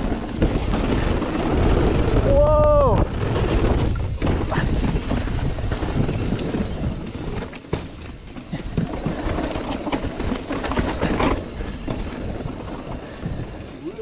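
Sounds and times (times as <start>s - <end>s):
tyres rumbling over rock: 0.0s - 13.8s
bike rattling over bumps: 0.0s - 14.0s.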